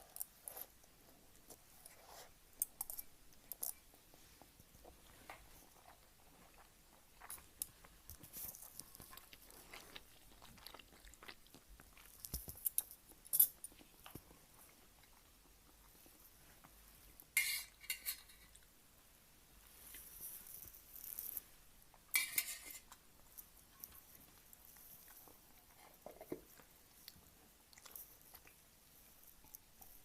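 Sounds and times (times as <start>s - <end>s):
soft chewing and mouth noises: 0.0s - 30.0s.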